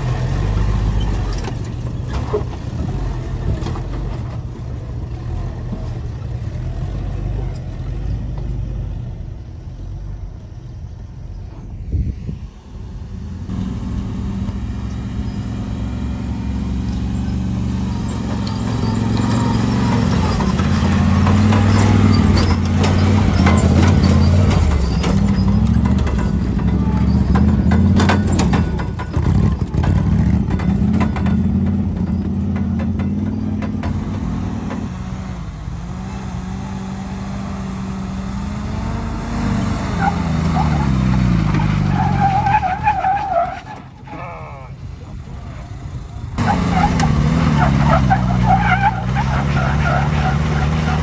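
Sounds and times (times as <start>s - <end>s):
engine running: 0.0s - 42.0s.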